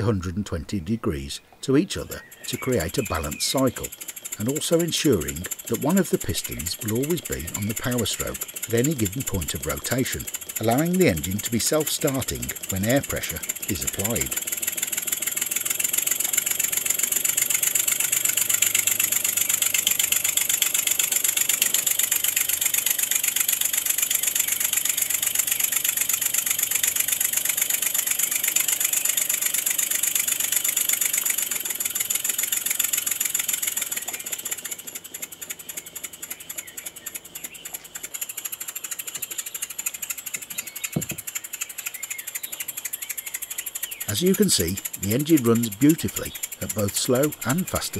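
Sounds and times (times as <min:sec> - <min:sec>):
model engine chuffing: 0:01.8 - 0:47.9.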